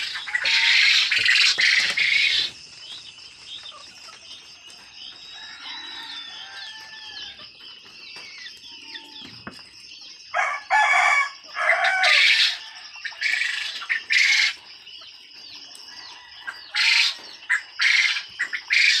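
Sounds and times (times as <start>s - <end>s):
quail chirping: 0.0s - 19.0s.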